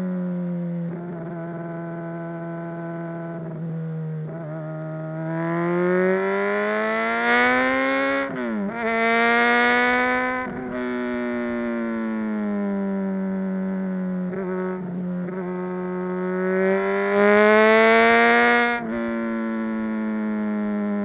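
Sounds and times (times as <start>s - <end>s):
motorcycle engine revving: 0.7s - 21.0s.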